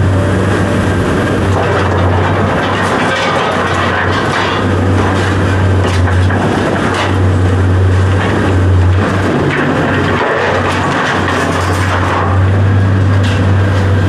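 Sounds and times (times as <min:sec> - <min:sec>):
heavy machine engine drone: 0:00.0 - 0:14.0.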